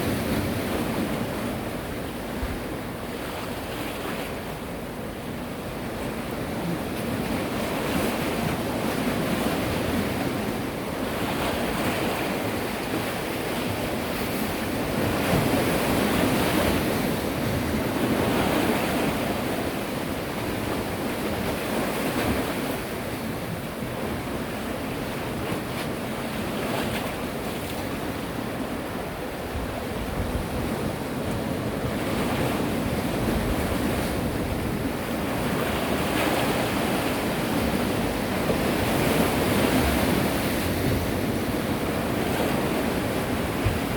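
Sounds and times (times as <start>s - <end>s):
sea waves breaking: 0.0s - 43.9s
wind rumbling on microphone: 5.8s - 43.9s.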